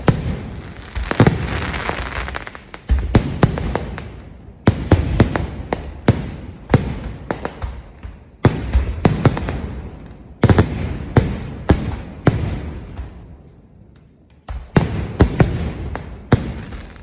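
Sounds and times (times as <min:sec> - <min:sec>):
fireworks loud bangs: 0:00.0 - 0:13.4, 0:14.4 - 0:17.0.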